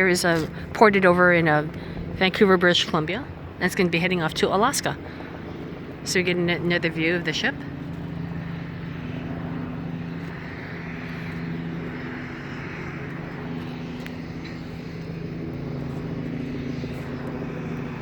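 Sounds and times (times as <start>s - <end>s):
engine drone with low tones: 0.0s - 18.0s.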